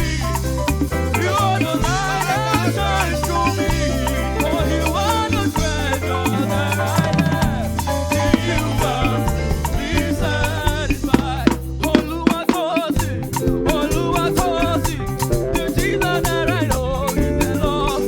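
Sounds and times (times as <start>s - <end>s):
bass line: 0.0s - 18.0s
bending melodic lead: 0.0s - 18.0s
gospel band playing dance music: 0.0s - 18.0s
percussion: 0.0s - 18.0s.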